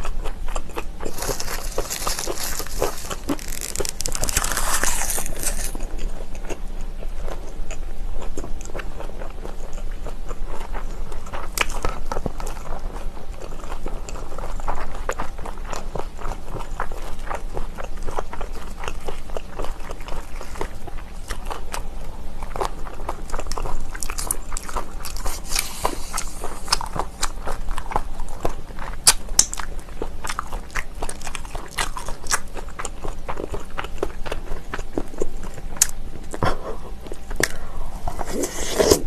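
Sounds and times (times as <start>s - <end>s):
kimchi being crunched and chewed: 0.0s - 39.0s.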